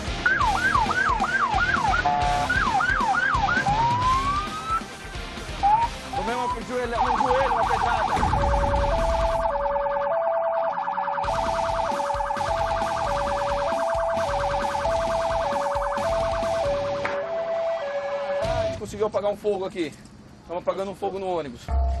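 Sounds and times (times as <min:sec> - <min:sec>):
two-tone hi-lo siren: 0:00.2 - 0:04.9, 0:05.6 - 0:18.8
warbling siren: 0:00.2 - 0:04.9, 0:05.6 - 0:18.8.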